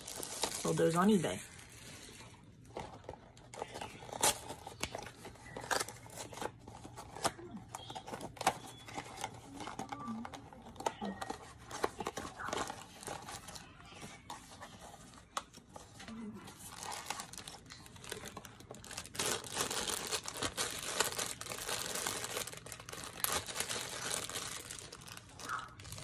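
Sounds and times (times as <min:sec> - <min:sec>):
cardboard and foil tearing: 0:00.0 - 0:14.8, 0:15.8 - 0:26.0.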